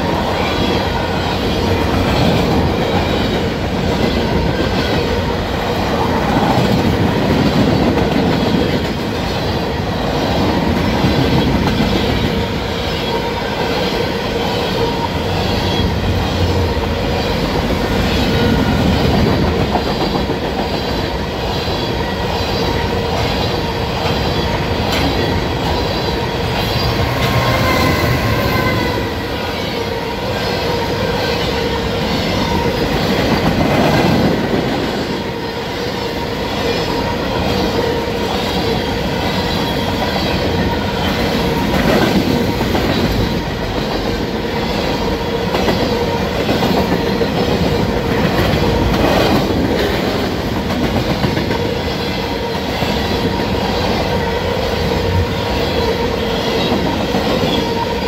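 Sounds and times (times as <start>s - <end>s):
diesel locomotive engine drone: 0.0s - 58.0s
train wheels clattering on rail: 0.0s - 58.0s.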